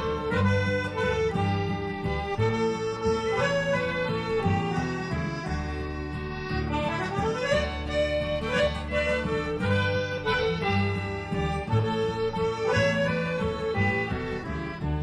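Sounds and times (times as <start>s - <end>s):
accordion melody: 0.0s - 15.0s
upright bass notes: 0.0s - 15.0s.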